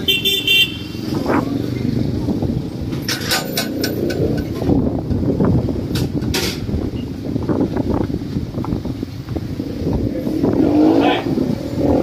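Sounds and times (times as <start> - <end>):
wind rumbling on microphone: 0.9 - 12.0.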